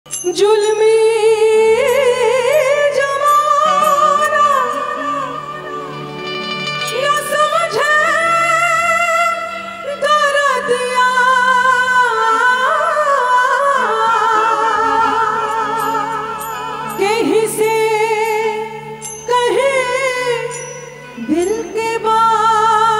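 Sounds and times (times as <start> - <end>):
woman singing through sound system: 0.1 - 6.2, 6.8 - 22.9
live band playing: 0.1 - 22.9.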